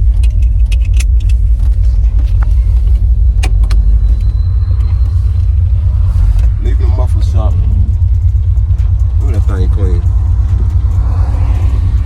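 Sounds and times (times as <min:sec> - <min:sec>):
engine deep exhaust rumble: 0:00.0 - 0:12.0.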